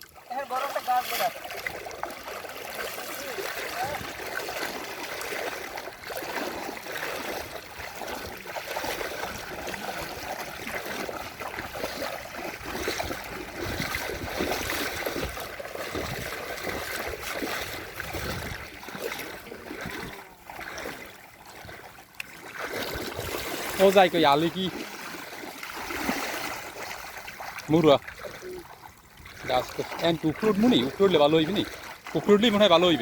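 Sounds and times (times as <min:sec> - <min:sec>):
creek water splashing: 0:00.0 - 0:33.0.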